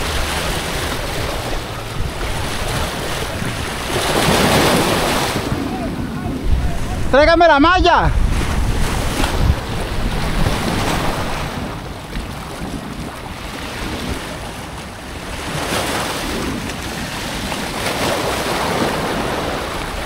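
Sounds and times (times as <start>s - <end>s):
waves breaking against rocks: 0.0s - 20.0s
wind noise on microphone: 0.0s - 20.0s.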